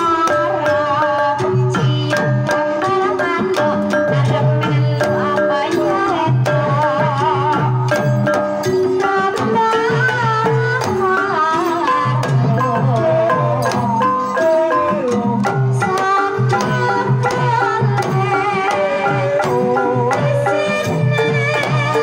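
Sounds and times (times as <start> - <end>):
hand drum steady rhythm: 0.0 - 22.0.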